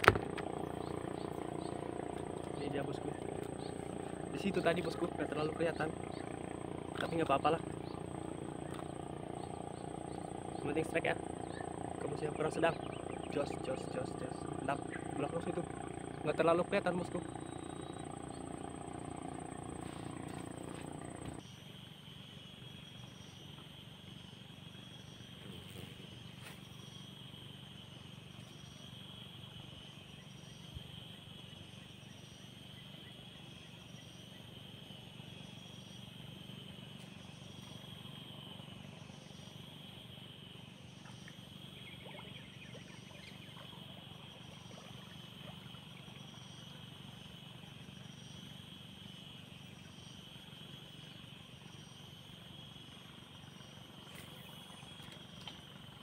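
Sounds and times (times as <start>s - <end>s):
insects chorus: 0.0s - 56.0s
low steady hum: 0.0s - 56.0s
pulsing high insect call: 0.0s - 56.0s.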